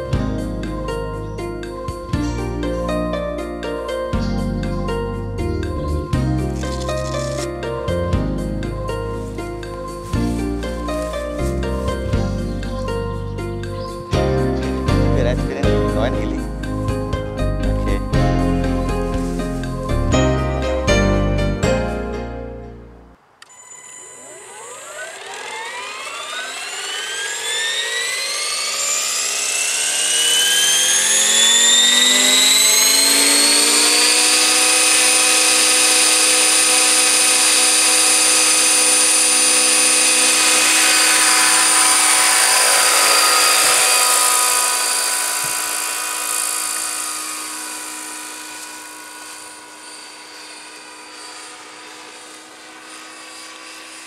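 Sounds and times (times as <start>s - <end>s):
model helicopter whine: 0.0s - 20.8s, 23.2s - 54.0s.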